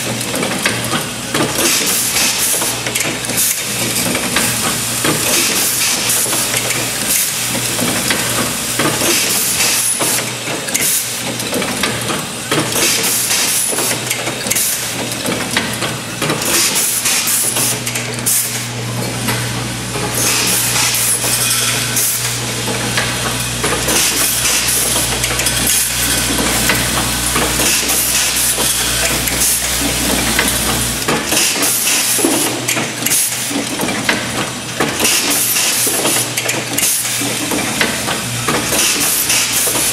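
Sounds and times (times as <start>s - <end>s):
quick machine clicks and clacks: 0.0s - 39.9s
pneumatic cylinders hissing: 1.5s - 15.0s, 16.0s - 18.8s, 20.0s - 33.7s, 35.0s - 39.9s.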